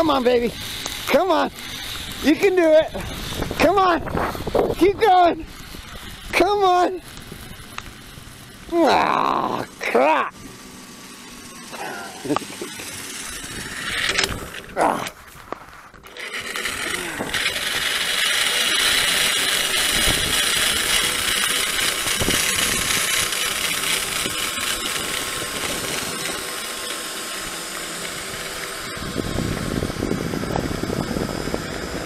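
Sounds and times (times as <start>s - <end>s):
zipline pulleys whirring on cable: 0.0s - 32.0s.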